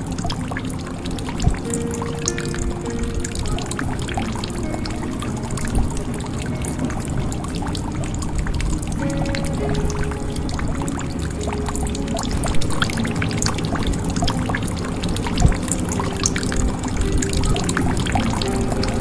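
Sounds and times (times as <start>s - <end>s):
water gurgling: 0.0s - 19.0s.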